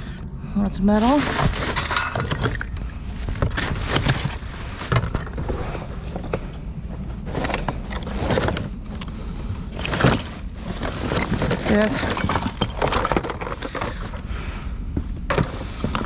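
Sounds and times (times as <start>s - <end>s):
steady low rumble: 0.0s - 16.0s
items knocking and clattering: 1.0s - 9.1s, 9.7s - 14.3s, 15.0s - 16.0s.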